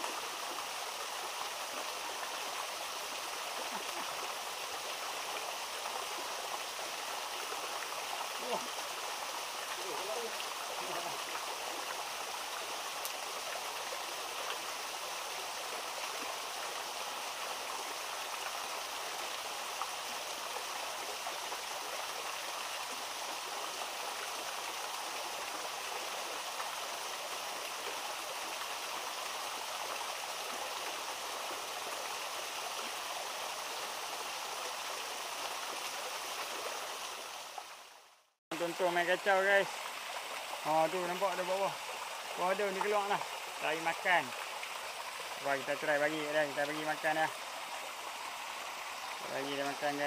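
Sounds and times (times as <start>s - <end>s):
stream flowing: 0.0s - 50.0s.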